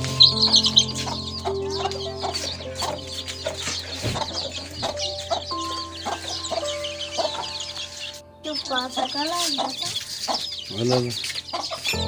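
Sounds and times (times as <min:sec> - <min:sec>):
background music of held notes: 0:00.0 - 0:12.0
chicks peeping: 0:00.0 - 0:12.0
hen clucking: 0:00.0 - 0:12.0.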